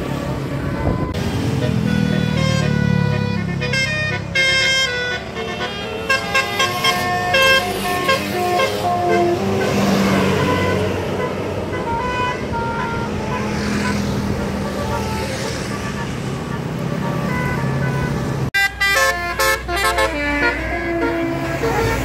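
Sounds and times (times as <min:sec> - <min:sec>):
multi-tone air horn melody: 0:00.4 - 0:22.0.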